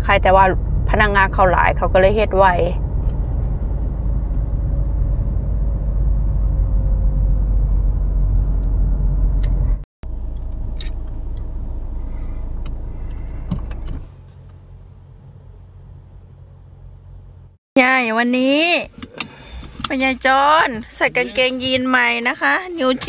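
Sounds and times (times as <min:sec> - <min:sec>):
car engine rumble: 0:00.0 - 0:17.6, 0:18.4 - 0:23.0.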